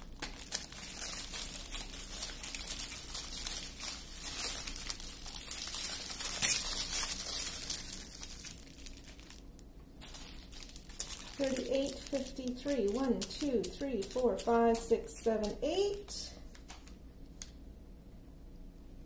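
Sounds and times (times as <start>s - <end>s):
plastic bags crinkling: 0.0s - 16.9s.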